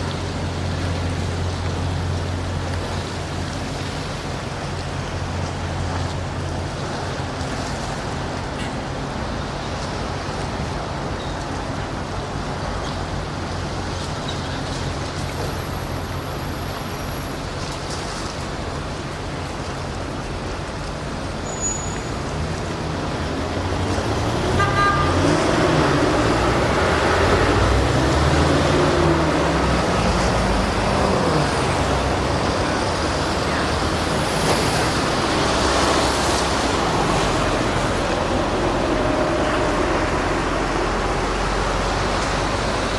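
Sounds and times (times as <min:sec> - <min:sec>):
boat engines droning: 0:00.0 - 0:42.9
water noise: 0:00.0 - 0:42.9
wind: 0:00.0 - 0:42.9.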